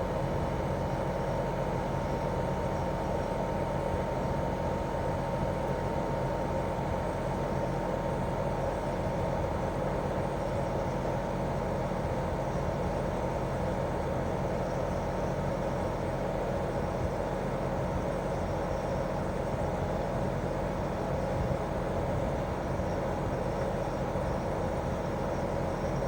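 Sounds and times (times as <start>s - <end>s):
air conditioner outdoor unit humming: 0.0s - 26.0s.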